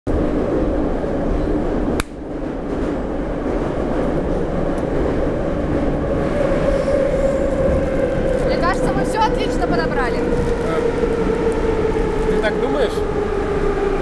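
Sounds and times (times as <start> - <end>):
train rumbling: 0.1 - 14.0.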